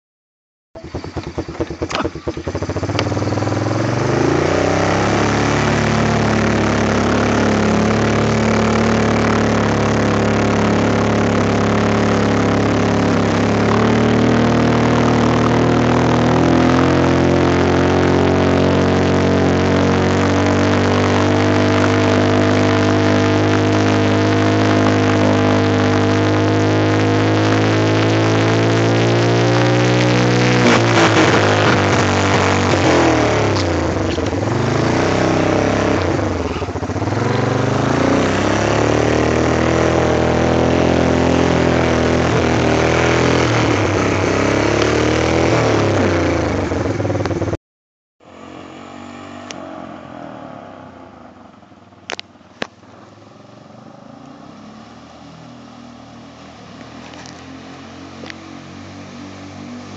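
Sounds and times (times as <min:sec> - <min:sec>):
quad bike engine running: 0:00.8 - 0:47.6, 0:52.0 - 0:59.9.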